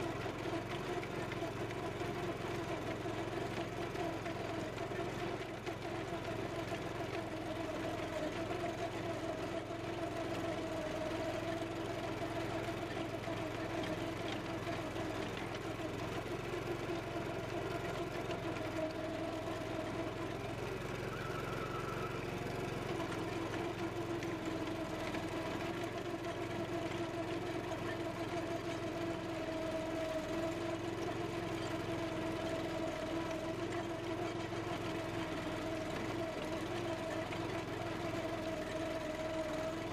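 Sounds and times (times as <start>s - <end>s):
trencher engine running: 0.0s - 39.9s.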